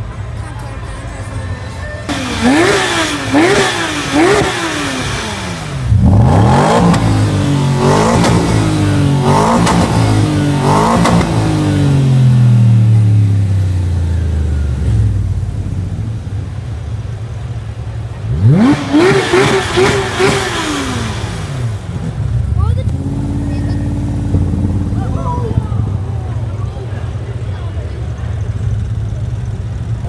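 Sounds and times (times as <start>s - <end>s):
sports car engine revving: 2.1s - 15.9s, 18.2s - 30.0s.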